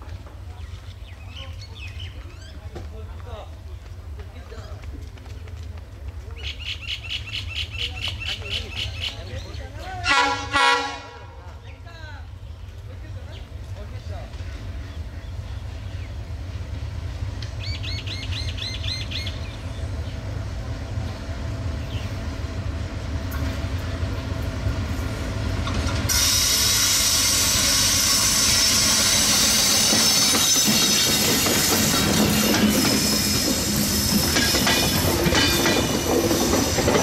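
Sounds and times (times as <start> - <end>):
coach wheels rushing on rails: 0.0 - 10.1, 11.5 - 37.0
diesel locomotive engine rumble: 0.0 - 37.0.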